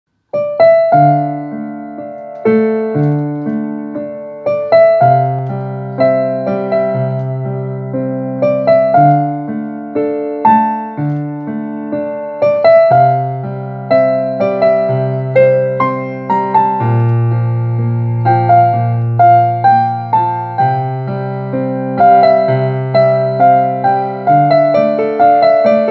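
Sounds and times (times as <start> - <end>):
piano slow melody and chords: 0.2 - 25.9.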